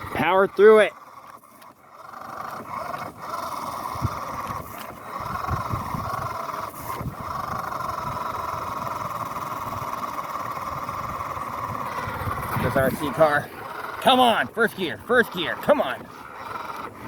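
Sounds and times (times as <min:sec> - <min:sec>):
toy car electric motor whining: 0:00.0 - 0:17.0.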